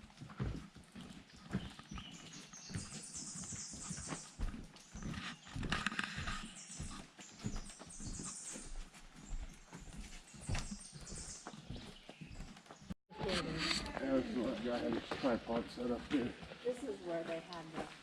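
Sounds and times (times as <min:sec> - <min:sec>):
footsteps on trail: 0:00.0 - 0:18.0.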